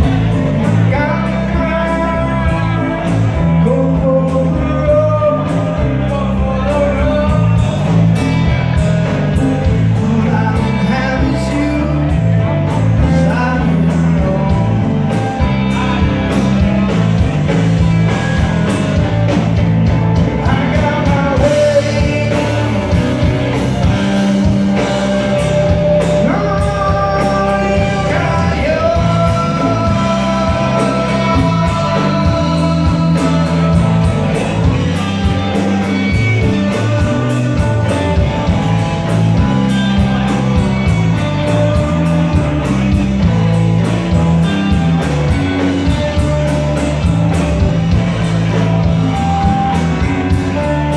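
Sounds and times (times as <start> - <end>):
person singing: 0.0 - 19.4, 20.2 - 50.9
bass guitar: 0.0 - 50.9
drum kit: 0.0 - 50.9
electric guitars: 0.0 - 50.9.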